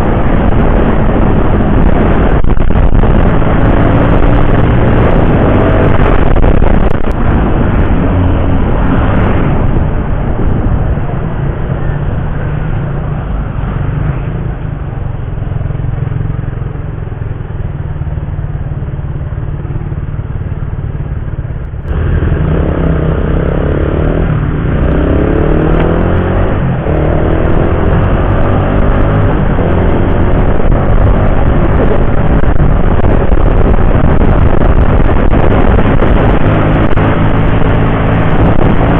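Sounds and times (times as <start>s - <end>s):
wind rushing: 0.0s - 15.4s, 21.7s - 38.9s
motorcycle engine accelerating: 0.0s - 38.9s.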